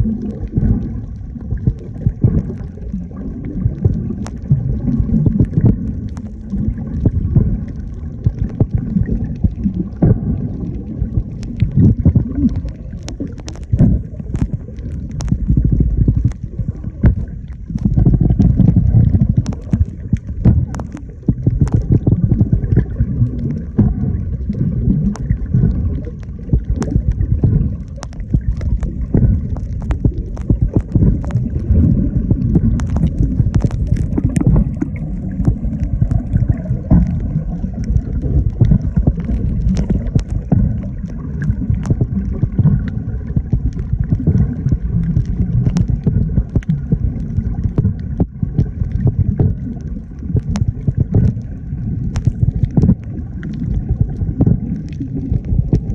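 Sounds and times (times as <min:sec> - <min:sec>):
faint clicks: 0:00.0 - 0:55.9
water buffeting microphone: 0:00.0 - 0:55.9.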